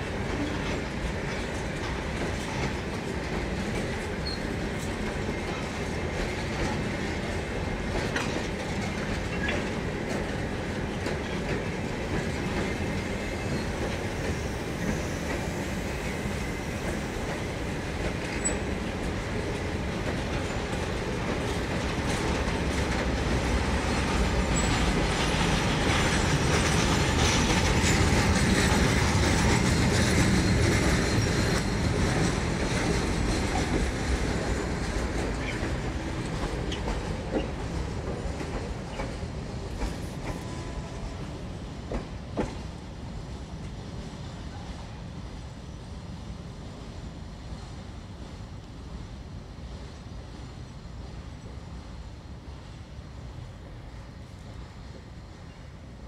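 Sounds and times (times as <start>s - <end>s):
freight train wheels clacking on rails: 0.0s - 45.5s.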